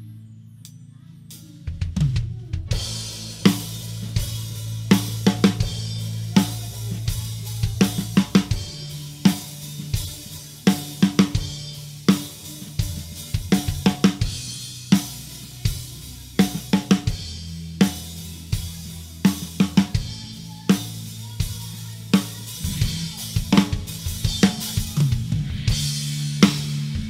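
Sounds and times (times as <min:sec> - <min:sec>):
held bass notes: 0:00.0 - 0:27.0
drum and cymbal hits: 0:01.7 - 0:27.0.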